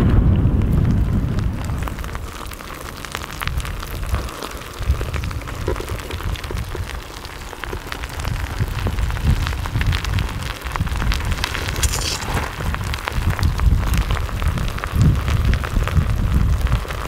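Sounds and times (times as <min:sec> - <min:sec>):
lava crust crackling: 0:00.0 - 0:17.0.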